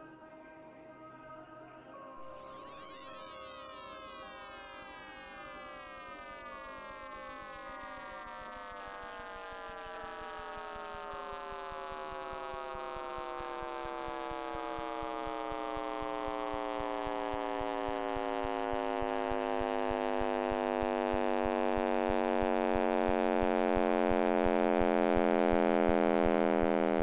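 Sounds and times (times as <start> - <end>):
synthesized falling hum: 2.2 - 27.0.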